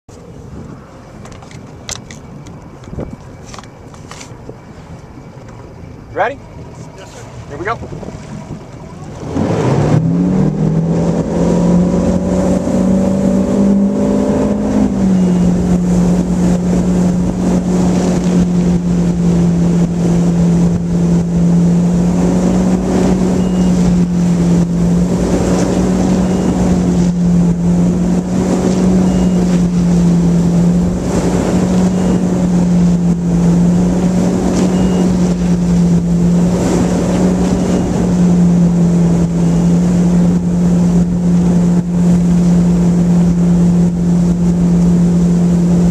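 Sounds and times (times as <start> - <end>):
boat engine revving: 2.9 - 45.9.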